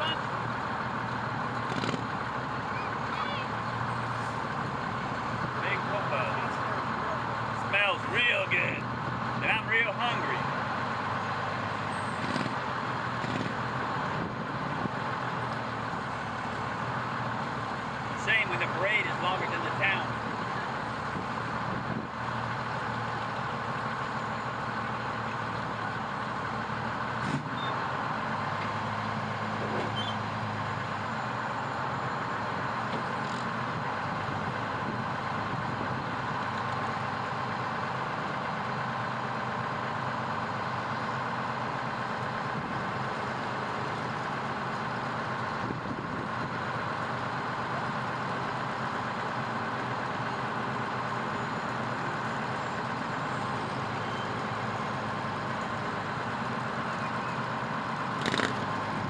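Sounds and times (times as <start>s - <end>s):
fire truck engine idling: 0.0s - 59.0s.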